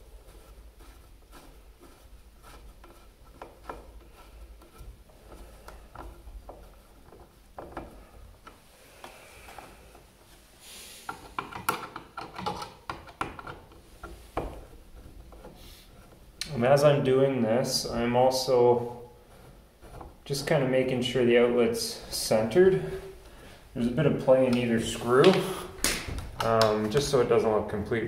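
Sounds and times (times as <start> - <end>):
handling scrapes and rubbing: 0.0 - 27.8.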